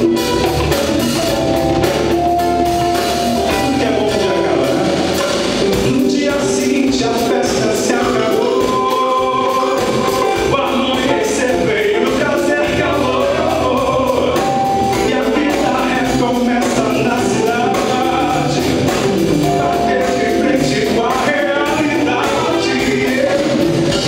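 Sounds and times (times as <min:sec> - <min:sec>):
live band playing: 0:00.0 - 0:24.0
man singing: 0:03.0 - 0:24.0.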